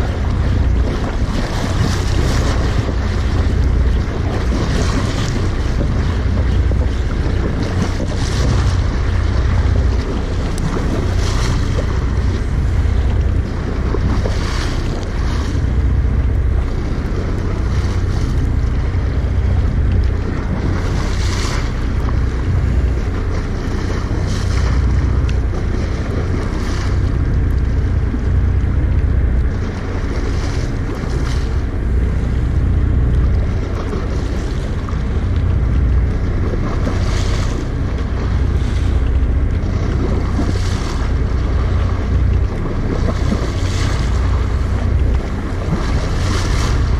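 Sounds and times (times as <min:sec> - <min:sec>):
waves splashing against boat: 0:00.0 - 0:46.9
wind buffeting microphone: 0:00.0 - 0:46.9.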